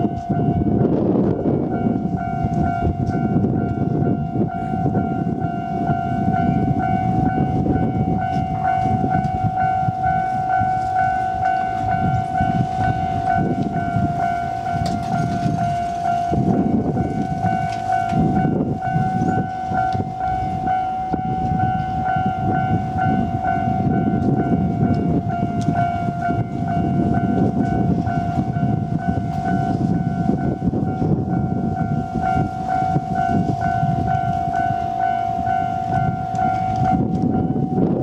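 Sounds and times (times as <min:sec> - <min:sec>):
freight train rumbling: 0:00.0 - 0:38.0
level-crossing alarm pulsing: 0:00.0 - 0:38.0.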